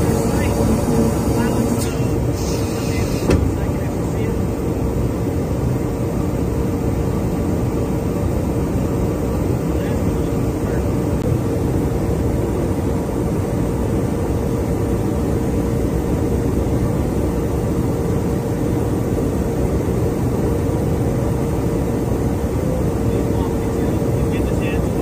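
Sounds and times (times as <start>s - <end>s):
aircraft engine and airflow roar: 0.0s - 25.0s
mid-pitched hum: 0.0s - 25.0s.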